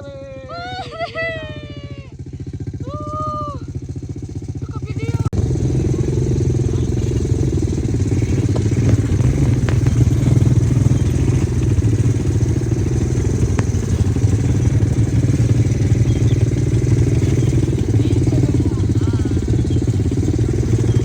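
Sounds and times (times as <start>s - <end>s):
small engine running roughly: 0.0s - 21.0s.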